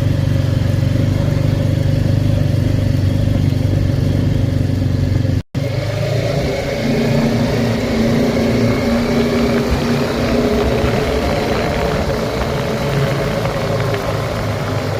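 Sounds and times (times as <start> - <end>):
atv engine running: 0.0 - 14.9.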